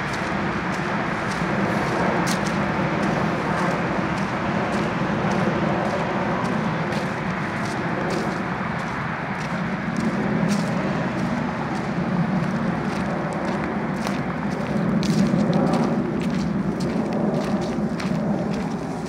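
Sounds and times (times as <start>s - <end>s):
footsteps crunching dry leaves: 0.0s - 19.0s
steady rushing background noise: 0.0s - 19.0s.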